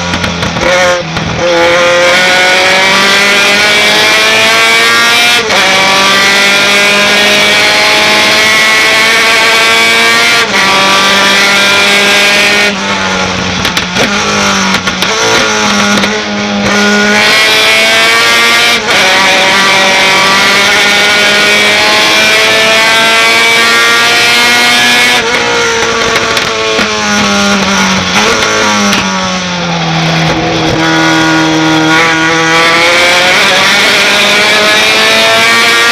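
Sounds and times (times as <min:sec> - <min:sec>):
truck engine at high revs: 0:00.0 - 0:35.9.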